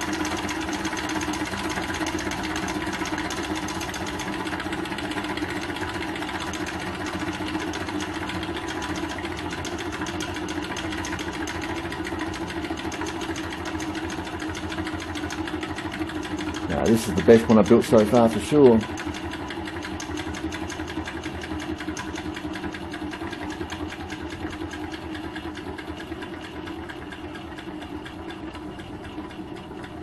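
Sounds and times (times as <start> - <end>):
stirling engine mechanical clatter: 0.0 - 30.0.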